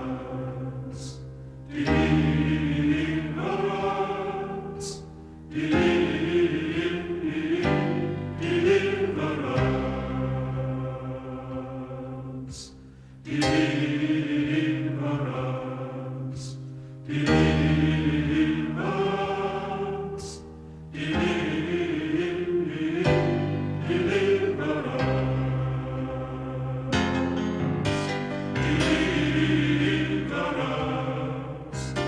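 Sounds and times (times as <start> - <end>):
choir singing held chords: 0.0 - 32.0.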